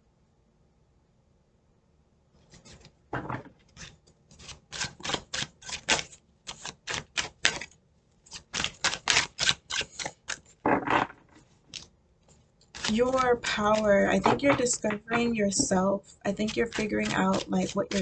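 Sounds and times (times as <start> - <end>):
cards being shuffled: 2.4 - 7.7, 8.3 - 18.0.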